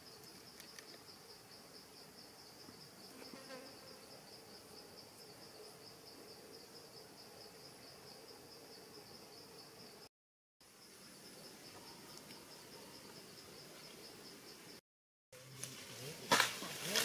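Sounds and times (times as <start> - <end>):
insect chirring: 0.0 - 14.8.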